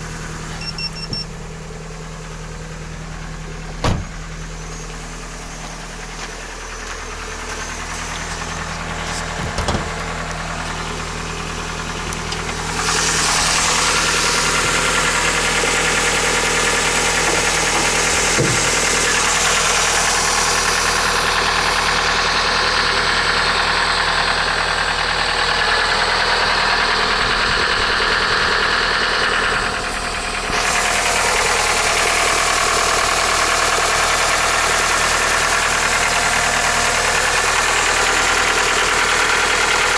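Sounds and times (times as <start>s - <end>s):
car engine idling rough: 0.0s - 39.9s.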